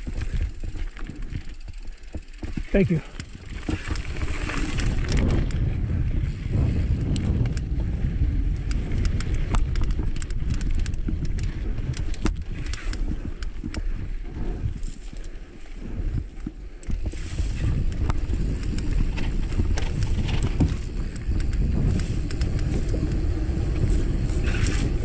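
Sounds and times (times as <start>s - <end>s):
bike clicking and rattling: 0.0s - 25.0s
bike tyres rumbling over dirt: 0.0s - 25.0s.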